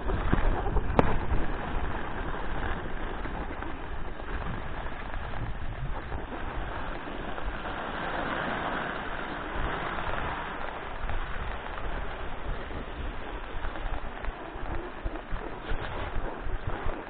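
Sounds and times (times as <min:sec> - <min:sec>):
skis scraping over snow: 0:00.0 - 0:17.0
wind on microphone: 0:00.0 - 0:17.0.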